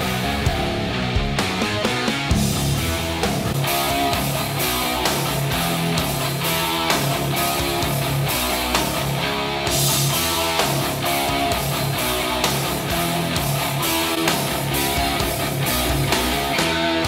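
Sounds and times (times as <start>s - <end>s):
song with guitar and drums: 0.0s - 17.0s.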